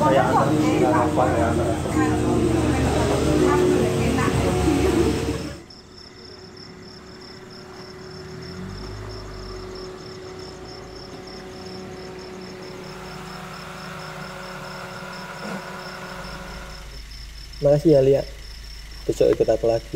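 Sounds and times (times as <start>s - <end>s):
car engine hum: 0.0s - 19.9s
crickets chirping: 0.0s - 19.9s.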